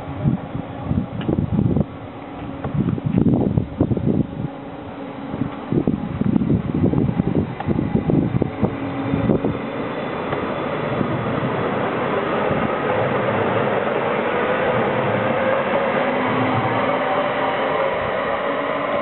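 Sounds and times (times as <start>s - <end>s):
wheel and rail noise: 0.0s - 19.0s
wind buffeting microphone: 0.0s - 19.0s
electric train motors whining: 0.6s - 19.0s.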